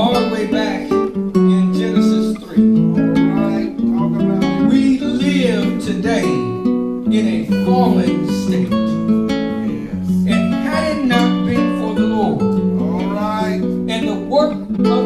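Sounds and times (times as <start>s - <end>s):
guitar-like instrument chords: 0.0s - 15.0s.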